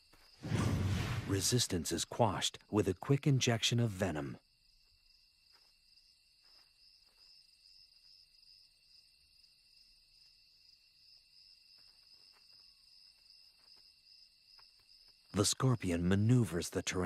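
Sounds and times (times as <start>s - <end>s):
cricket chorus trilling: 1.9s - 17.0s.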